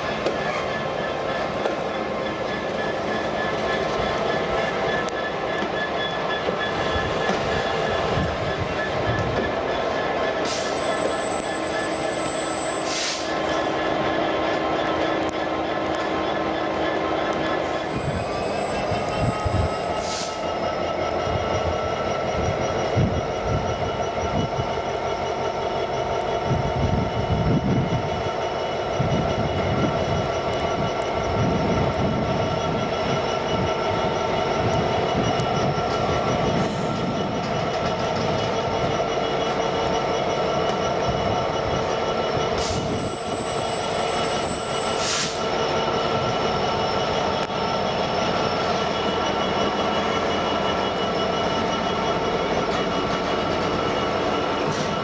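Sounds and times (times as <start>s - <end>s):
train rumbling past: 0.0s - 55.0s
train wheels squealing: 0.0s - 55.0s.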